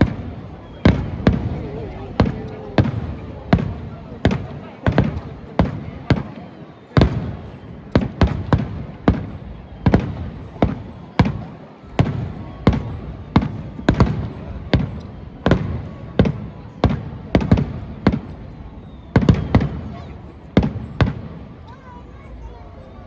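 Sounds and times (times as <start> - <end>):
fireworks bursting with booms: 0.0 - 21.7.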